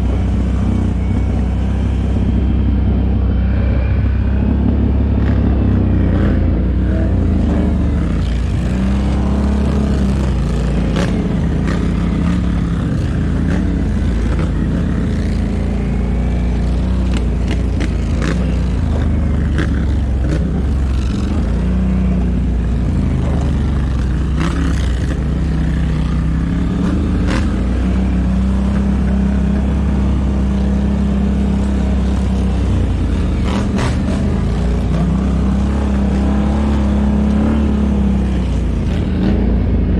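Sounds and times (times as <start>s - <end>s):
atv engine running under load: 0.0s - 39.9s.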